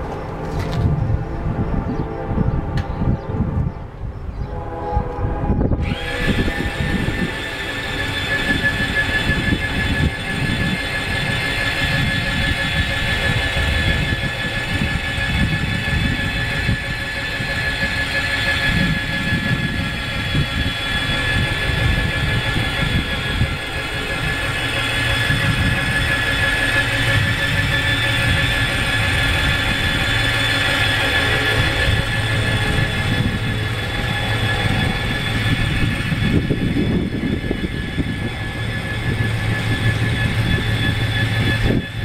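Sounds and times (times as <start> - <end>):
low rumble: 0.0 - 42.0
motor whining: 5.6 - 42.0.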